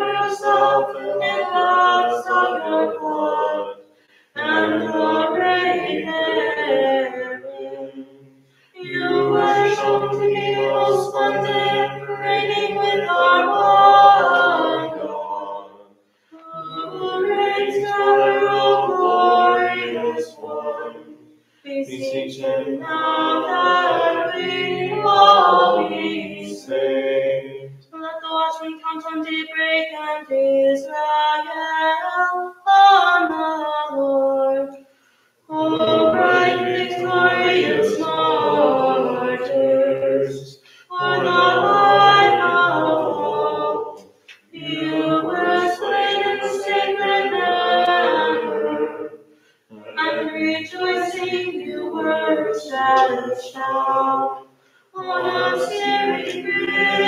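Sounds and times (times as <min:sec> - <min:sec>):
group chanting a hymn: 0:00.0 - 0:34.9, 0:35.5 - 0:57.0.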